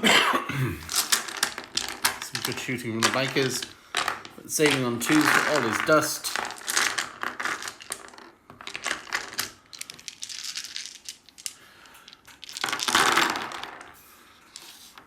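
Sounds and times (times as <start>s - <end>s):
plastic dice clattering: 0.9s - 14.7s.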